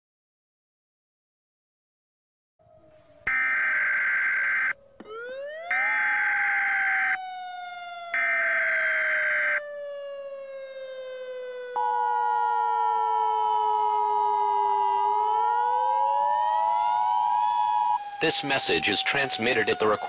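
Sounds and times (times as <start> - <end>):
siren-like gliding tone: 2.6 - 20.0.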